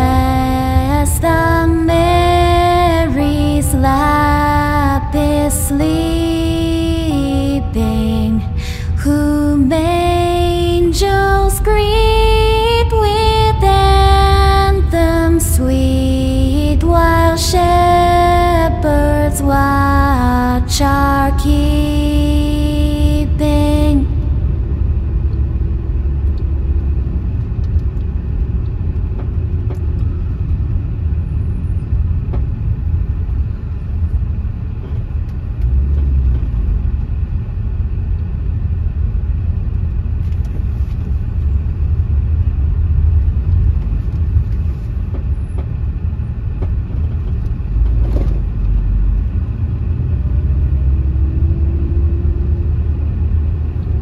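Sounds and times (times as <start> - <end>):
faint engine hum: 0.0 - 54.0
vehicle rumbling along road: 0.0 - 54.0.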